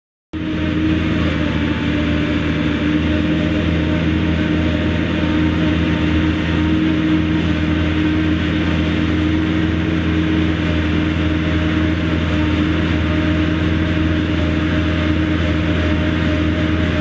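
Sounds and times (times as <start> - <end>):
tractor diesel engine under load: 0.3 - 17.0.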